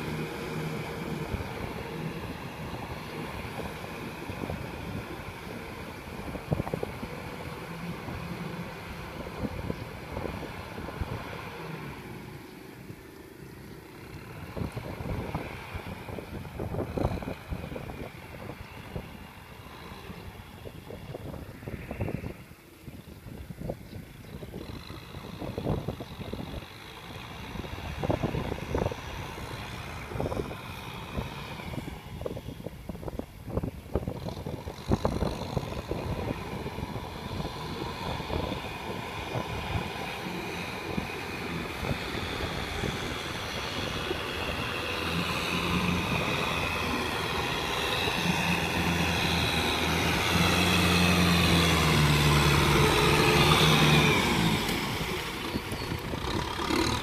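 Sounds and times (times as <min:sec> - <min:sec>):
tractor diesel engine: 0:00.0 - 0:22.5, 0:24.4 - 0:57.0.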